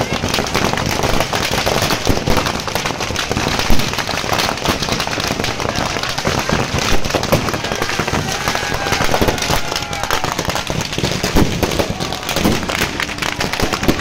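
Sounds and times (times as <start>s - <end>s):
firecrackers crackling and banging: 0.0s - 14.0s.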